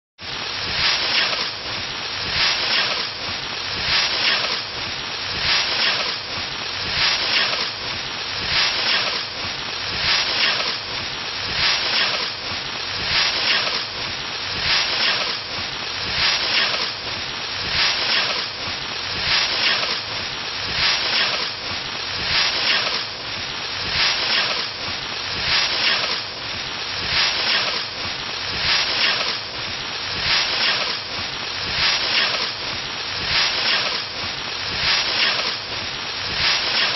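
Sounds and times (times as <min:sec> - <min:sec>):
scythe swishing through wheat: 0:00.2 - 0:36.9.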